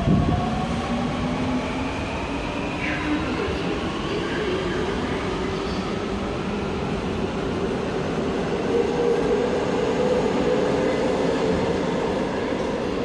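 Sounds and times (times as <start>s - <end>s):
subway train rumbling and whining: 0.0s - 13.0s.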